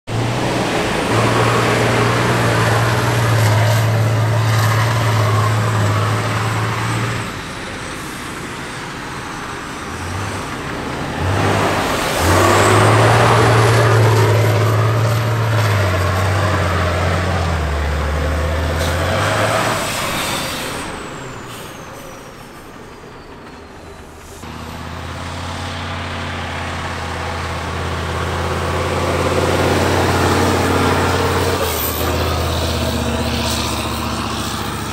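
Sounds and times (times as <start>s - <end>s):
diesel truck engines revving: 0.0s - 34.9s.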